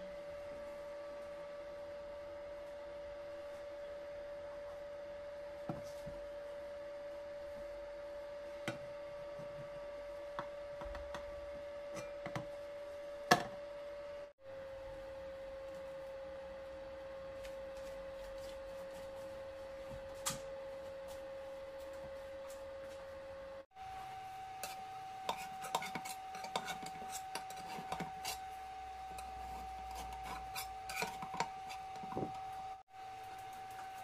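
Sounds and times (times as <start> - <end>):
electric hotplate hum: 0.0 - 34.0.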